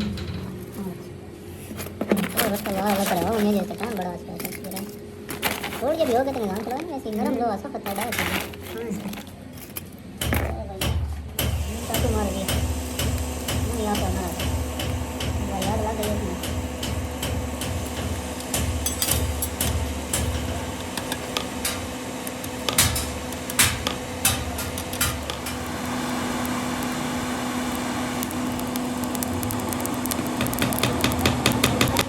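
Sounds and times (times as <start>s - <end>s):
workshop machine hum: 0.0s - 32.0s.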